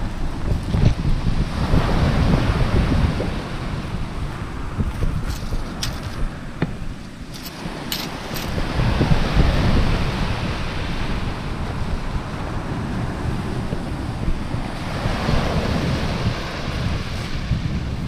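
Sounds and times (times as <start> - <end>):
waves breaking on beach: 0.0 - 18.0
wind on microphone: 0.0 - 18.0.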